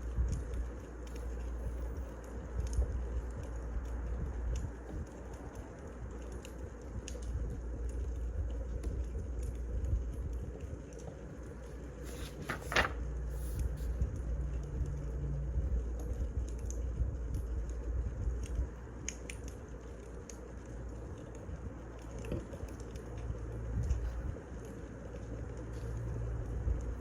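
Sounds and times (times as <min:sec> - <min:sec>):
wood fire crackling and popping: 0:00.1 - 0:12.3, 0:13.7 - 0:26.0.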